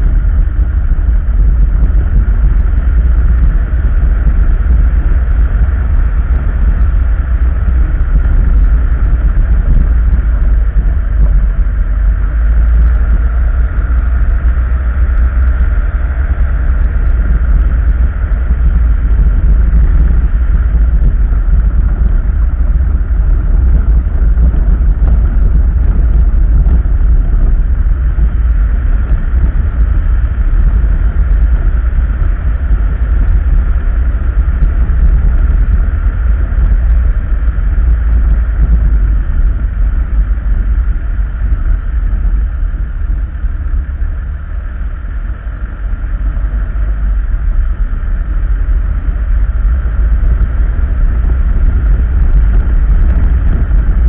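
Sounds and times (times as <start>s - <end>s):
mid-pitched hum: 0.0s - 54.0s
vehicle rumbling on gravel road: 0.0s - 54.0s.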